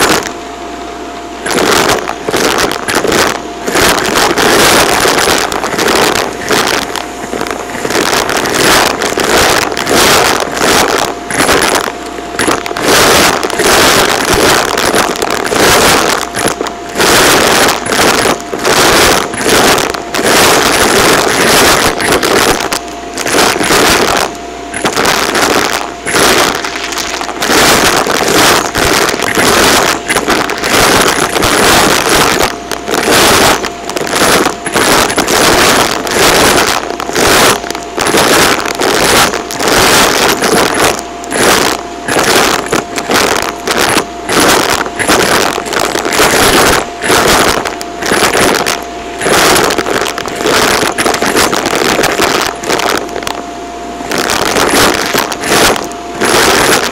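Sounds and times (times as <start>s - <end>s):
vacuum cleaner motor whine: 0.0s - 56.9s.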